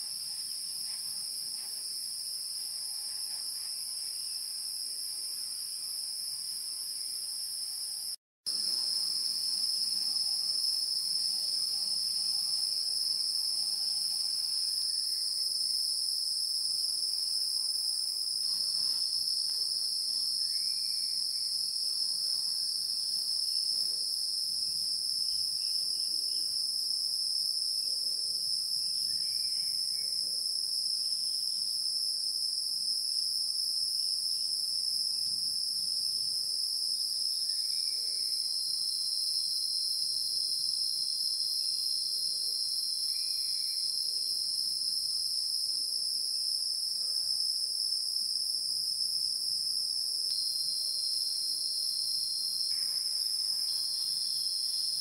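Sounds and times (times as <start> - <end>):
high-pitched insect drone: 0.0 - 26.7, 35.2 - 55.0.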